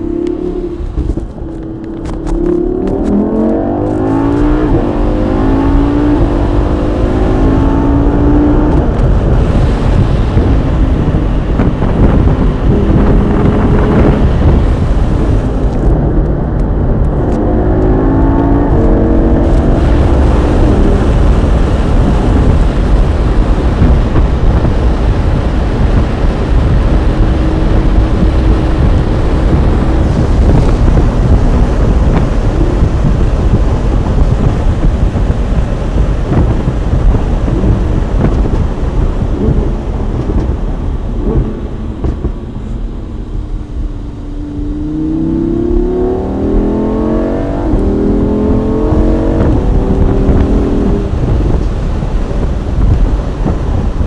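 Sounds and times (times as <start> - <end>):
sports car engine driving: 0.0 - 54.0
wind buffeting microphone: 0.0 - 54.0.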